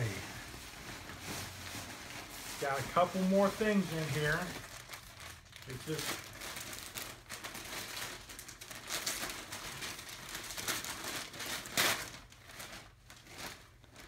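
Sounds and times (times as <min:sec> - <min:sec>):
wrapping paper crinkling and tearing: 0:00.0 - 0:14.0.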